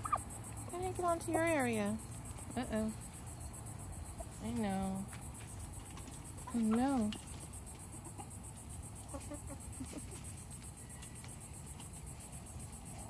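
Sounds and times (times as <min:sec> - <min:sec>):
poultry clucking: 0:00.0 - 0:12.4
crickets chirping: 0:00.0 - 0:13.0.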